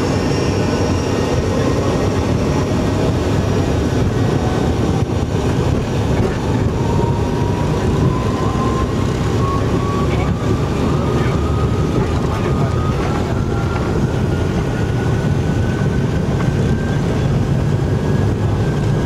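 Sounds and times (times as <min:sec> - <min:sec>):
jet engine takeoff rumble: 0:00.0 - 0:19.0.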